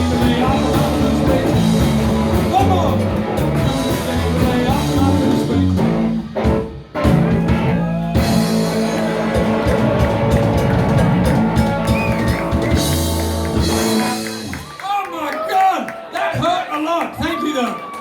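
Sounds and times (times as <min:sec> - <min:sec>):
rock band playing: 0:00.0 - 0:14.8.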